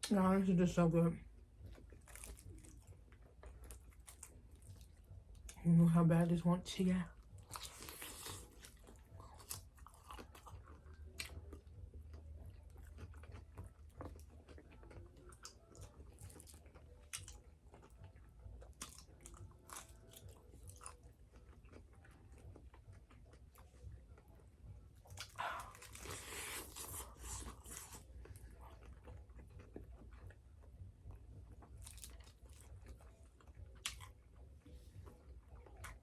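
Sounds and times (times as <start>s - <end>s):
person chewing crispy chicken: 1.6s - 5.6s, 7.2s - 24.4s, 25.0s - 36.0s.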